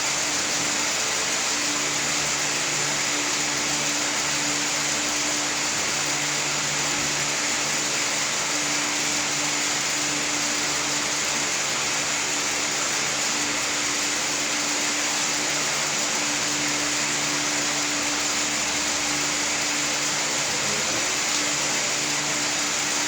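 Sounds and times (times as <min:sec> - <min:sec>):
fan running: 0:00.0 - 0:23.0.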